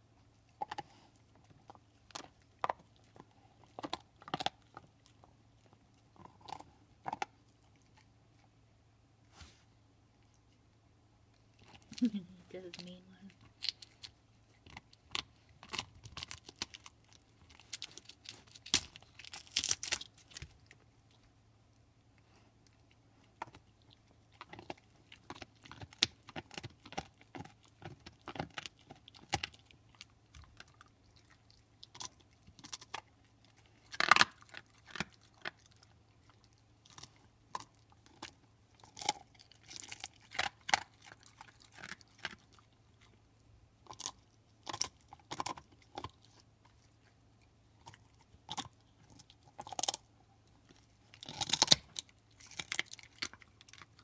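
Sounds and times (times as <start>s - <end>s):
dog crunching a bone: 0.1s - 8.6s, 11.3s - 54.0s.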